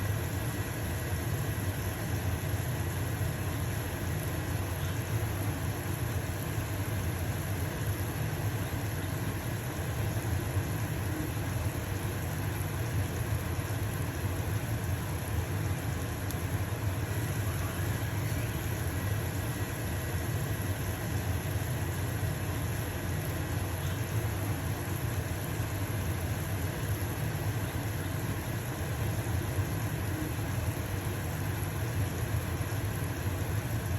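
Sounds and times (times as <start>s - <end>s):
range hood fan humming: 0.0s - 33.9s.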